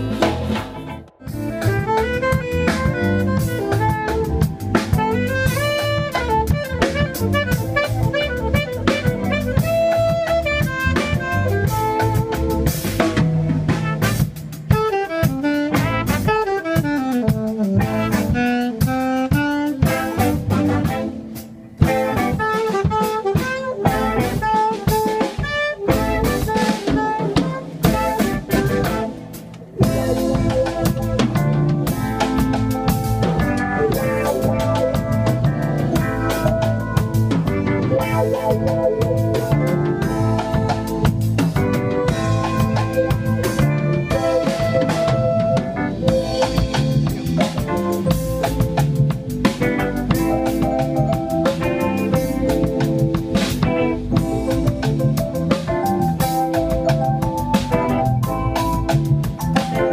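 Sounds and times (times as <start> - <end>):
drum kit: 0.0 - 59.9
electric bass: 0.0 - 59.9
keyboard: 0.0 - 59.9
saxophone melody: 0.0 - 59.9.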